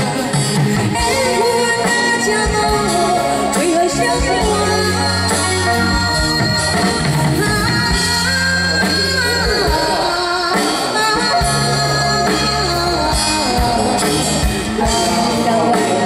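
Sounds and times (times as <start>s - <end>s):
live band playing pop song: 0.0s - 16.0s.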